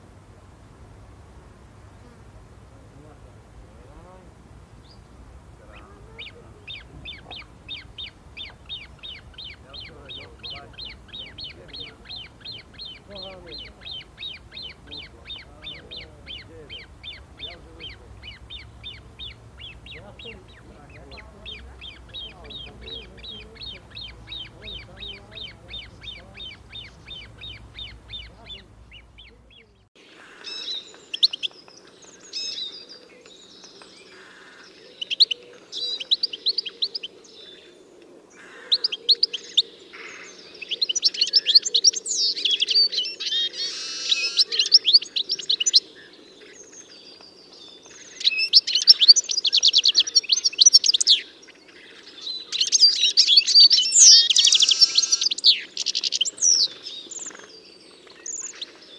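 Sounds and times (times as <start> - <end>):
songbirds singing: 0.0 - 58.9
bird chirps and trills: 3.8 - 58.9.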